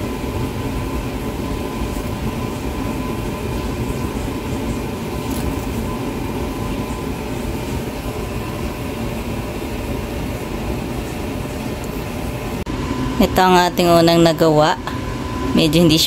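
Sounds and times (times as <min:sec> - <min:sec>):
faint hum: 0:00.0 - 0:16.0
low machine rumble: 0:00.0 - 0:16.0.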